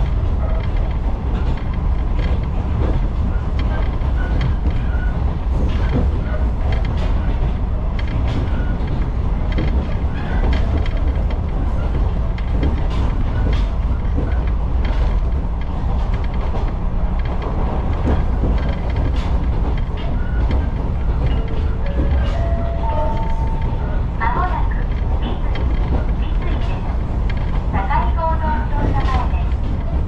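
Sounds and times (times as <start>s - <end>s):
train interior rumble: 0.0s - 30.0s.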